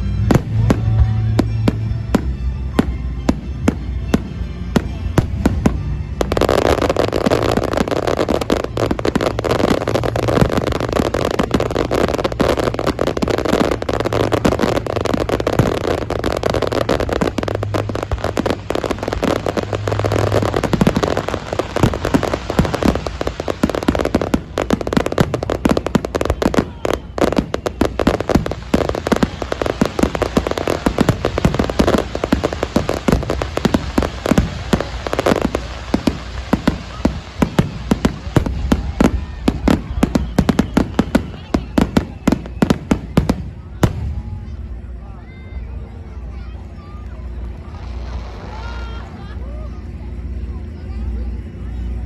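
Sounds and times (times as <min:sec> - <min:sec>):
fireworks bursts and crackles: 0:00.0 - 0:52.0.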